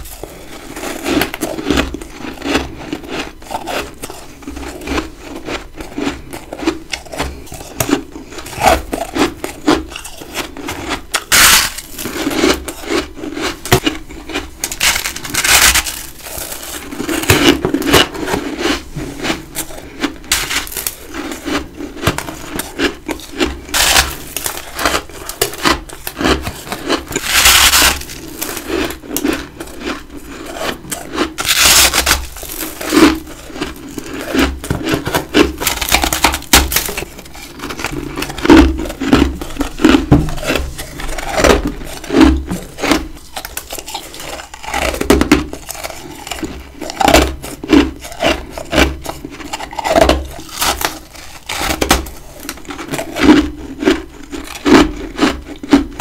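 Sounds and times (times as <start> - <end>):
crunching bites of frost: 0.0 - 56.0.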